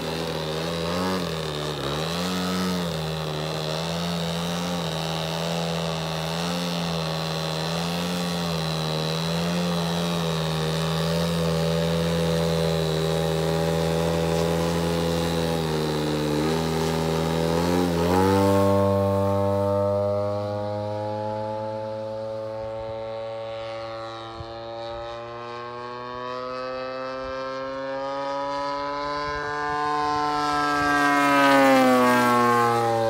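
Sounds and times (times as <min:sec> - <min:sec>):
model airplane propeller and motor: 0:00.0 - 0:33.0.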